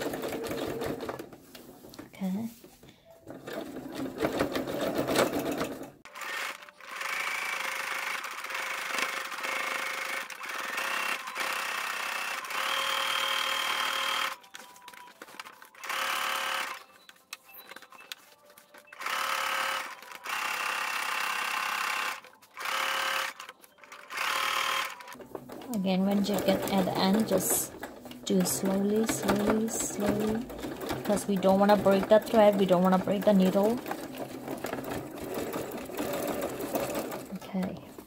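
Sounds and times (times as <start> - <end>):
sewing machine stitching: 0.0 - 2.6, 3.2 - 38.0.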